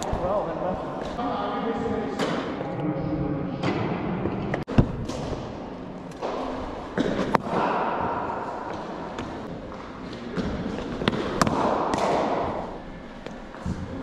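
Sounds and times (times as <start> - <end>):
echoing hall hum: 0.0 - 14.0.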